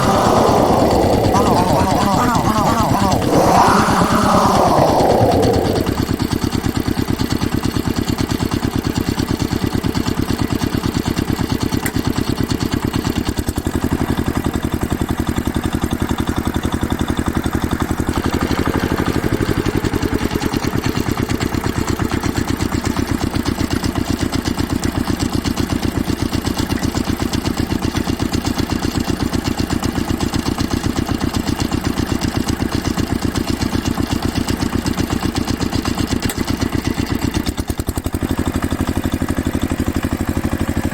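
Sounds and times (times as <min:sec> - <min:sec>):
small engine idling: 0:00.0 - 0:40.9.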